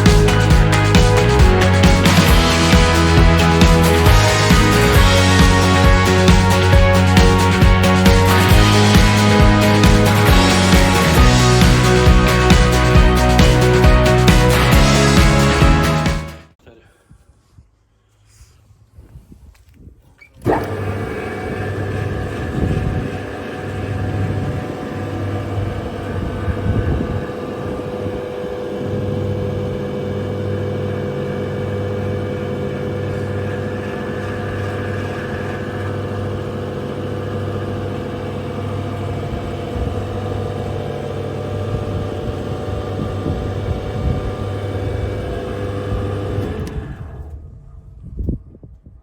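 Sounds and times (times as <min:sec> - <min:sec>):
circular saw running: 0:00.0 - 0:16.4, 0:20.4 - 0:47.4.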